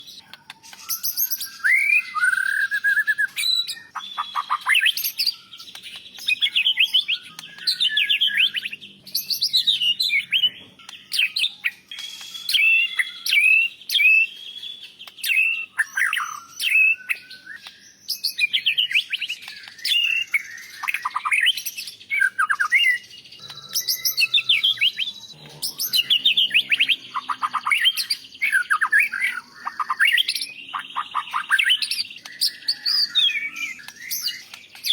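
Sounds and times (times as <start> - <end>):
songbird singing whistles and trills: 0.0 - 34.9.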